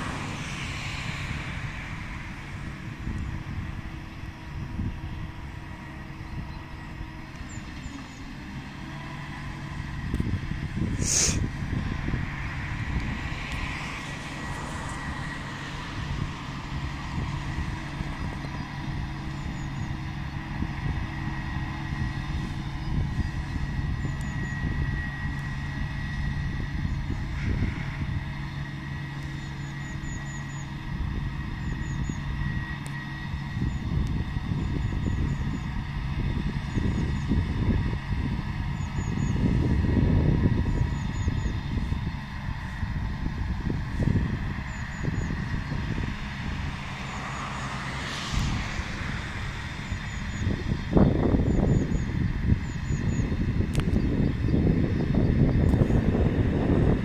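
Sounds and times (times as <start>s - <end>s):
diesel engine running: 0.0s - 57.0s
high whine: 0.0s - 57.0s.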